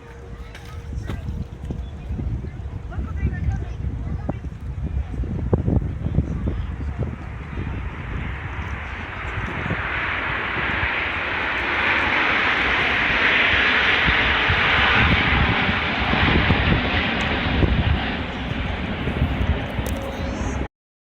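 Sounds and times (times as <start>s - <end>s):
aircraft flying past: 0.0s - 20.7s.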